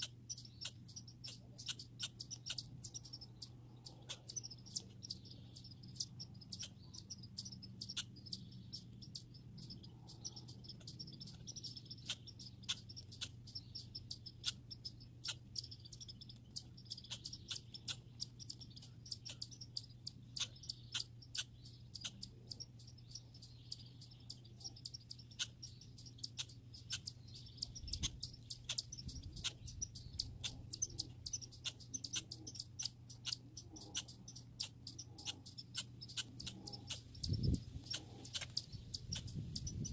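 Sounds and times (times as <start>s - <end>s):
squirrels clicking and chipping: 0.0s - 39.9s.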